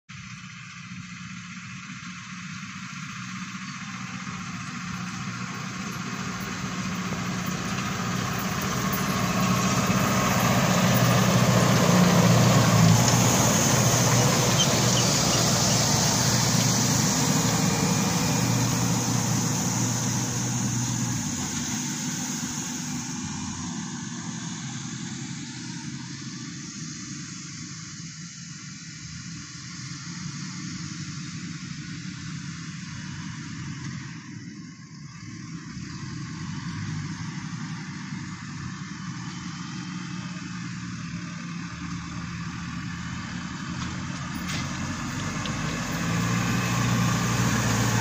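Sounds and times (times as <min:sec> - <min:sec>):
harrow and roller working soil: 0:00.1 - 0:27.0, 0:29.9 - 0:48.0
tractor diesel engine: 0:00.1 - 0:48.0.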